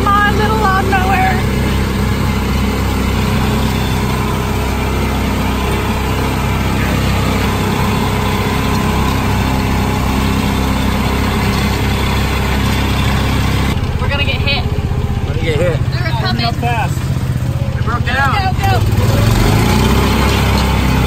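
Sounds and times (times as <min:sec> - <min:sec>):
small engine running at full throttle: 0:00.0 - 0:21.0.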